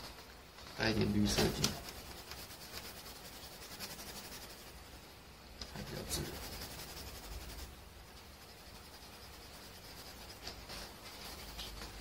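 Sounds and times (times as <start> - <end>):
pencil scratching on paper: 1.0 - 4.9, 5.7 - 12.0.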